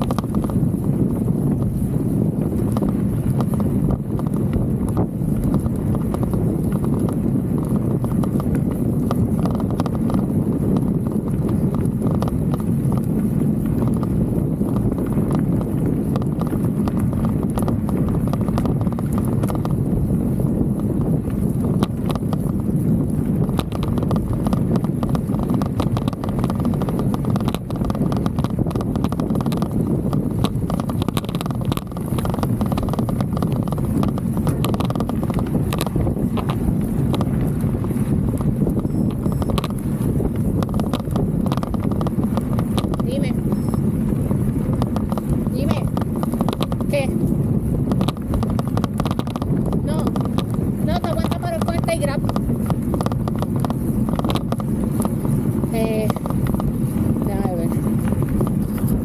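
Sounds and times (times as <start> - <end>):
bike tyres rumbling on dirt: 0.0 - 59.0
wind: 0.0 - 59.0.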